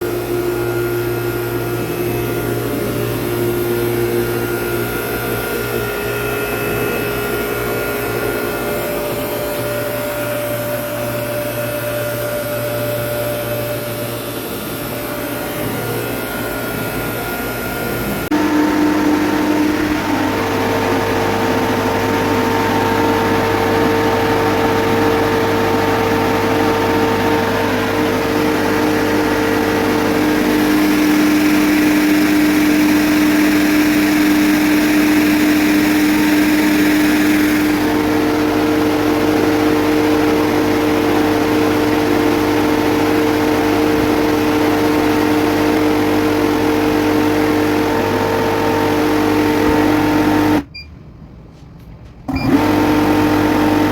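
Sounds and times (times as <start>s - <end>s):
compressor motor humming: 0.0s - 51.2s, 52.2s - 53.9s.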